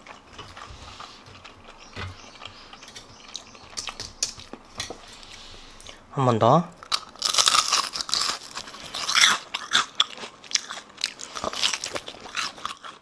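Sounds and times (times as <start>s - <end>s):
crunchy batter being chewed: 0.0s - 6.0s, 6.8s - 13.0s.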